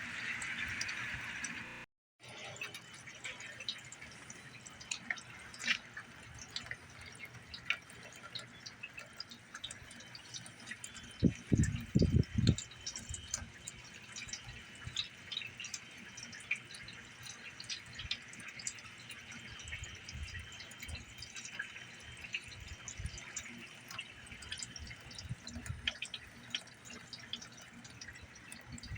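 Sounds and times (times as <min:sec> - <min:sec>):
water drops ticking: 0:02.6 - 0:28.9.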